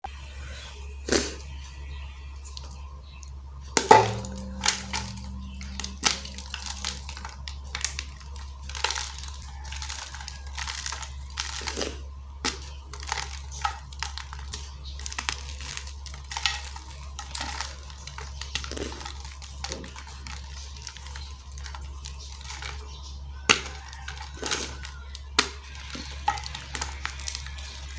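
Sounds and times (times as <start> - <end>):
steady low hum: 0.1 - 27.9
chalk being crushed: 3.8 - 27.9.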